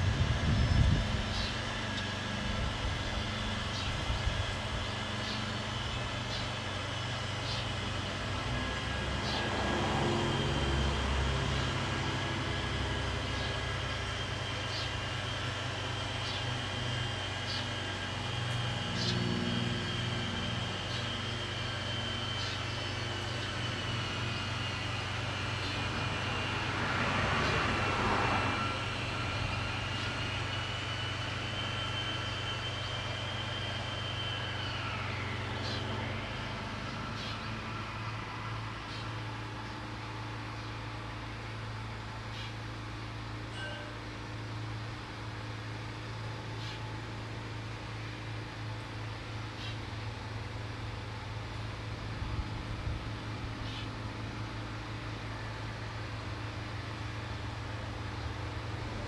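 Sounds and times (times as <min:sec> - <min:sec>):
vehicles passing: 0:00.0 - 0:16.8, 0:17.4 - 0:43.5, 0:44.6 - 0:59.0
low engine hum: 0:00.0 - 0:59.0.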